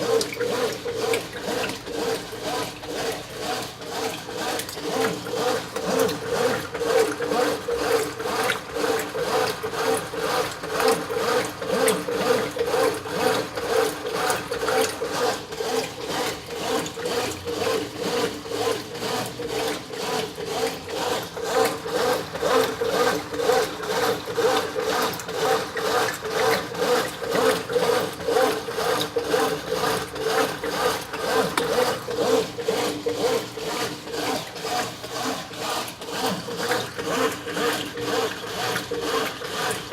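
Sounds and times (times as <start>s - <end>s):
washing machine agitating: 0.0s - 39.9s.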